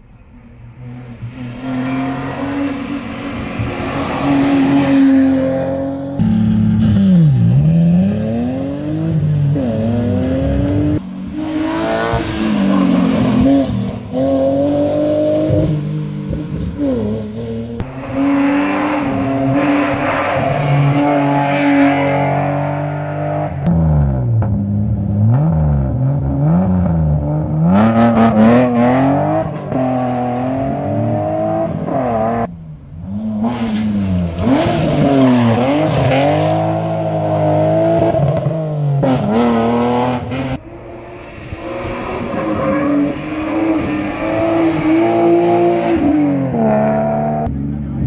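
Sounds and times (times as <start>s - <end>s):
rally car engines revving: 0.6s - 48.0s.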